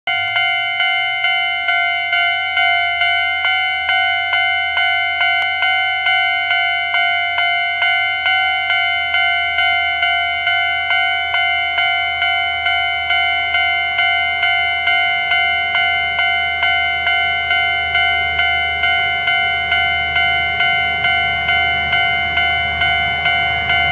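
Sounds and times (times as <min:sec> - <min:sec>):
level crossing bell ringing: 0:00.1 - 0:23.9.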